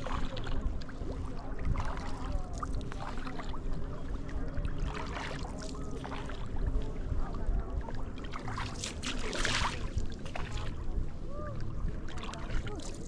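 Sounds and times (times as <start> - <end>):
paddle washing through water: 0.0 - 7.2, 8.0 - 13.0
paddle stroke splash: 0.0 - 13.0.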